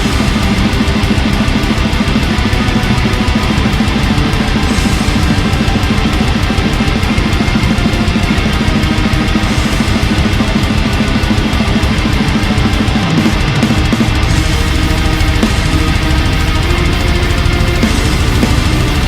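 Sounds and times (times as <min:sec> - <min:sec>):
distorted guitars: 0:00.0 - 0:19.0
fast dense drumming: 0:00.0 - 0:19.0.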